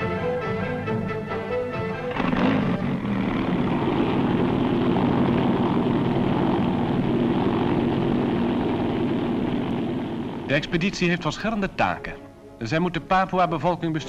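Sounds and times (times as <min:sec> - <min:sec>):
helicopter engine and rotor: 0:00.0 - 0:11.7.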